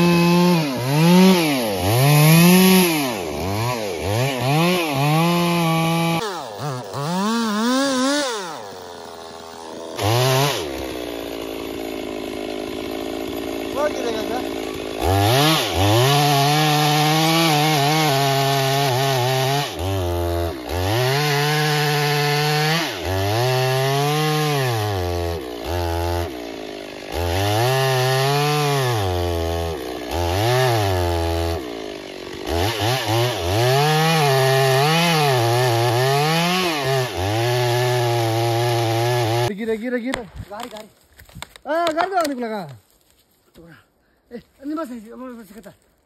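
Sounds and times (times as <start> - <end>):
chainsaw cutting wood: 0.0 - 43.3.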